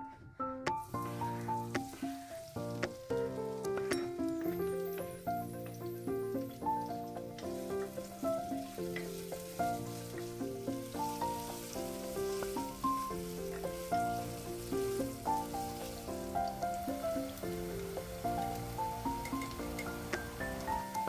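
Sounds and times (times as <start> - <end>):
melodic background music: 0.0 - 21.0
food sizzling in a pan: 0.8 - 21.0.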